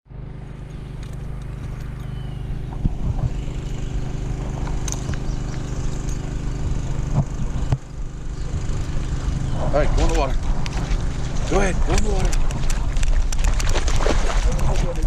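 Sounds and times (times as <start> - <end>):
vehicle engine humming: 0.1 - 15.0.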